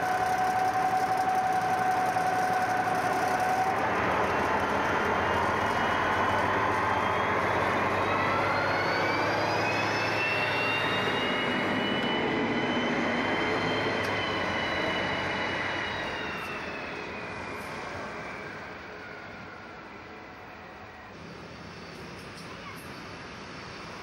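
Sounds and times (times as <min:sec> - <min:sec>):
diesel locomotive engine whine: 0:00.0 - 0:24.0.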